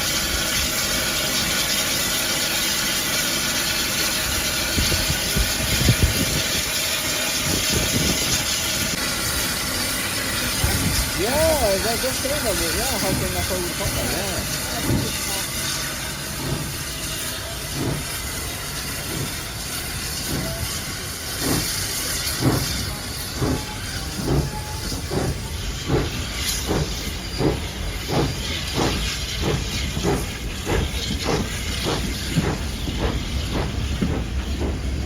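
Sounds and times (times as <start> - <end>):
steam hissing: 0.0 - 35.0
steam locomotive chuffing: 0.0 - 35.0.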